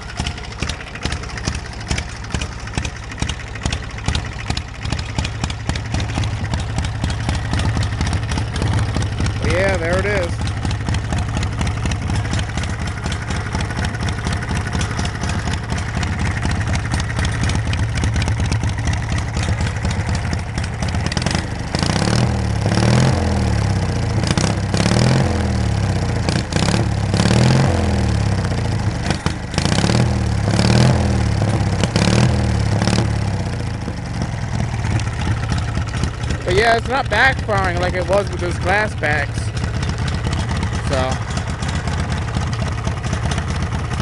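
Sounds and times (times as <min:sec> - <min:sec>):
tractor engine idling and revving: 0:00.0 - 0:44.0.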